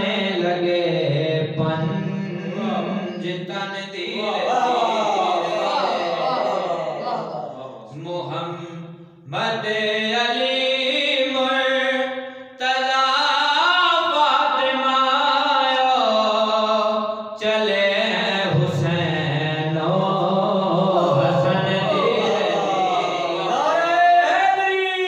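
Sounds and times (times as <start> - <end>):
man chanting devotional song: 0.0 - 5.7, 7.2 - 25.0.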